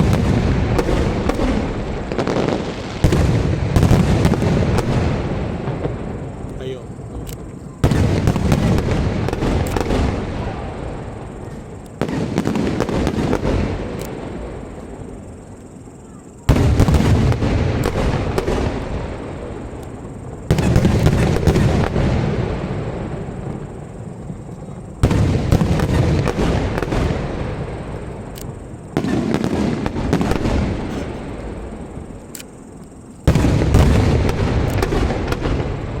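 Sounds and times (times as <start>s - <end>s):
fireworks bursting and crackling: 0.0s - 36.0s.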